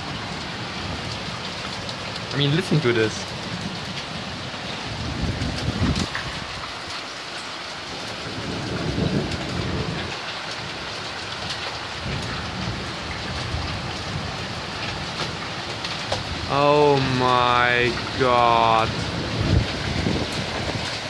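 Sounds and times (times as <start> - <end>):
rain and hail pelting: 0.0 - 21.0.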